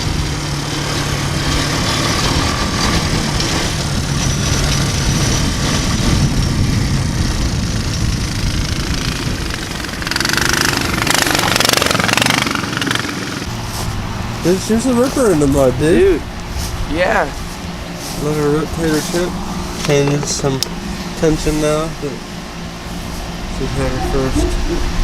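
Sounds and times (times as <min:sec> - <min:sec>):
loud noisy rush: 0:00.0 - 0:25.0
single-cylinder engine running: 0:00.0 - 0:25.0.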